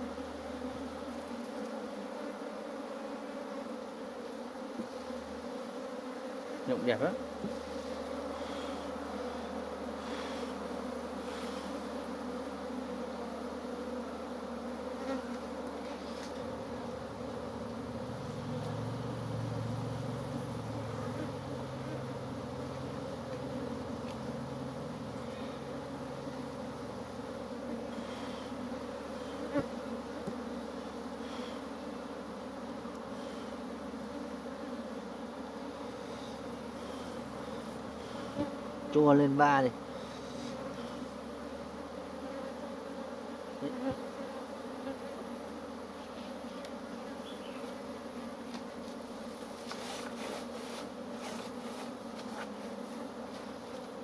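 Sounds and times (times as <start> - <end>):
honeybees humming: 0.0 - 54.0.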